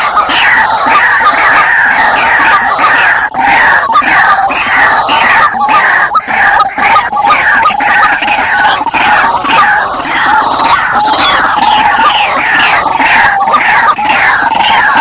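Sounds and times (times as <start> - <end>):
birds calling harshly: 0.0 - 15.0.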